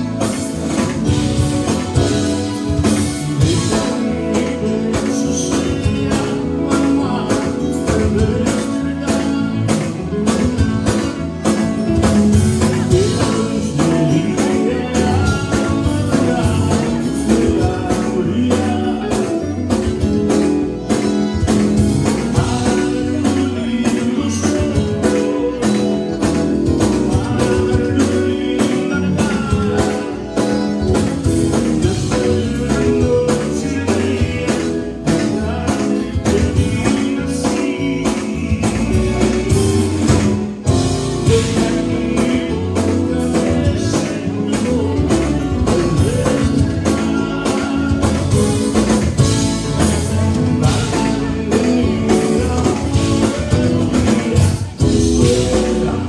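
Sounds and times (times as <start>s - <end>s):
accordion: 0.0s - 56.0s
live band playing: 0.0s - 56.0s
man singing: 0.0s - 56.0s.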